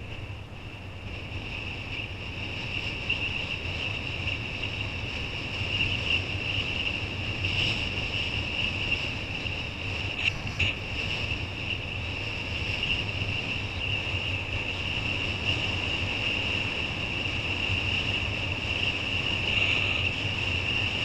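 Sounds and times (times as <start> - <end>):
wind buffeting microphone: 0.0 - 21.0
water rushing under kiteboard: 1.0 - 21.0.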